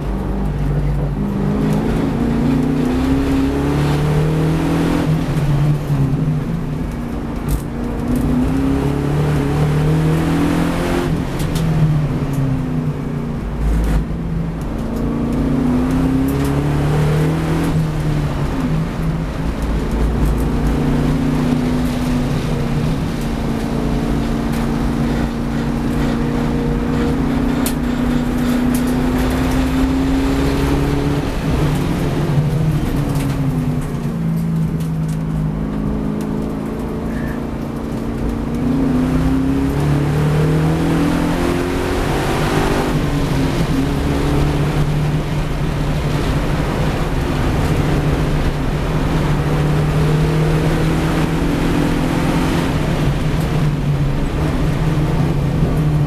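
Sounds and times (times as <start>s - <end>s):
race car engine from inside cabin: 0.0s - 56.0s.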